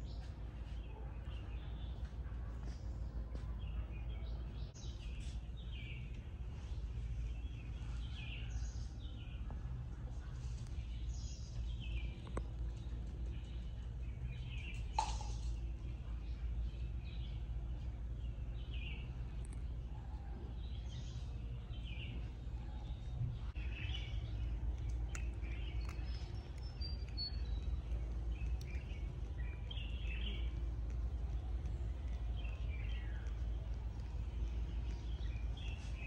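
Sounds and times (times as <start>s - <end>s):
birds chirping: 0.0s - 36.0s
low outdoor rumble: 0.0s - 36.0s.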